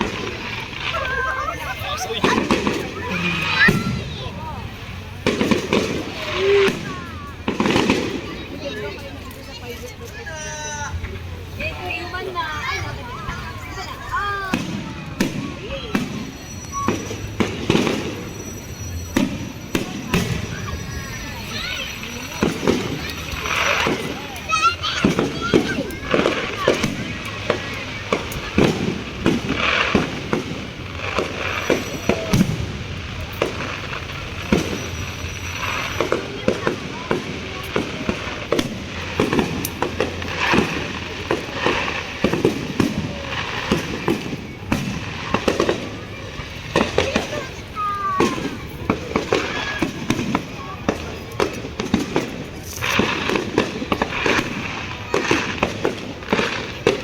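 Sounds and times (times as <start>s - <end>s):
fireworks bursting with bangs: 0.0s - 57.0s
fireworks crackling hiss: 0.0s - 57.0s.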